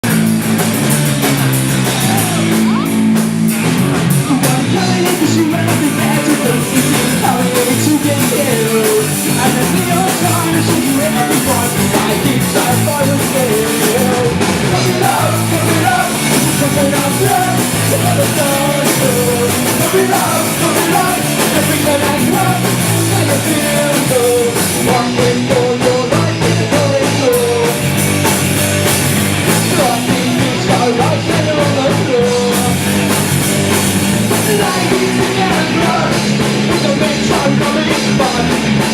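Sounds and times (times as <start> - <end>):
live punk rock band: 0.0 - 38.9.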